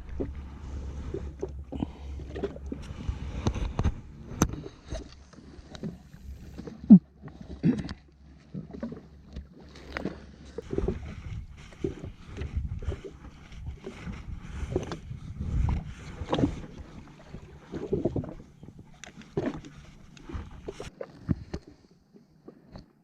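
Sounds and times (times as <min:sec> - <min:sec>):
water slapping against hull: 0:00.0 - 0:21.8.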